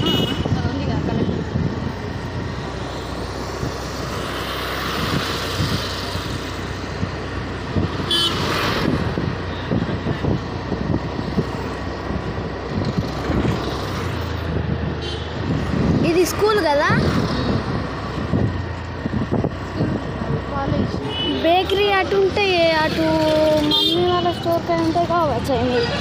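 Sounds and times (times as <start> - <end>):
engine and road noise: 0.0 - 26.0
vehicles passing: 0.0 - 26.0.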